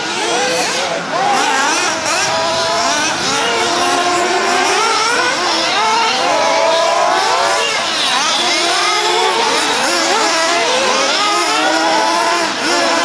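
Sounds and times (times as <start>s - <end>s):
model car engines whining: 0.0s - 13.0s.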